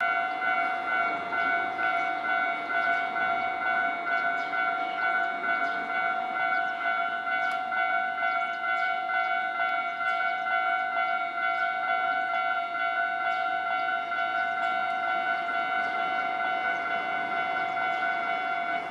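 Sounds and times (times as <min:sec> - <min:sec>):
level crossing warning bell: 0:00.0 - 0:18.9.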